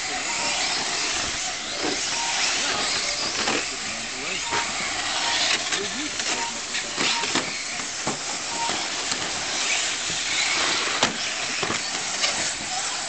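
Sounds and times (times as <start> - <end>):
rc trucks whirring: 0.0 - 13.0.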